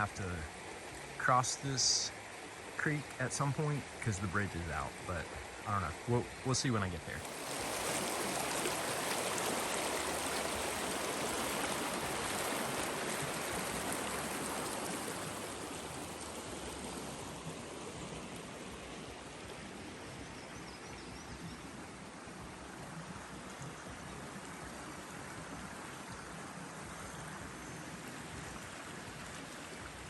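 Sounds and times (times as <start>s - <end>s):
creek running over rocks: 0.0s - 30.0s.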